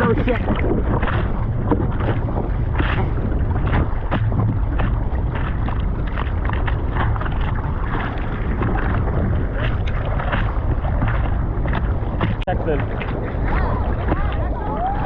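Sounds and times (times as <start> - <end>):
water splashing in surf: 0.0 - 15.0
wind buffeting microphone: 0.0 - 15.0.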